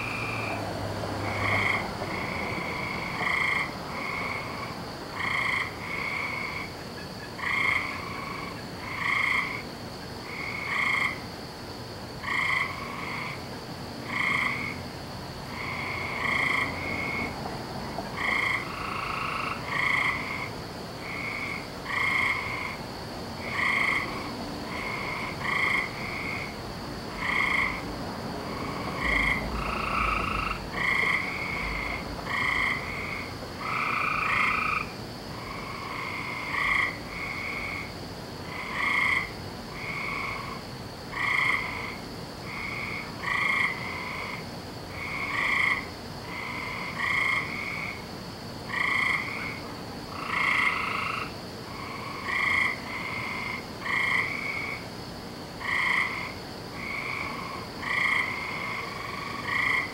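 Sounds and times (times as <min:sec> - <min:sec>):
frogs croaking in chorus: 0:00.0 - 0:59.9.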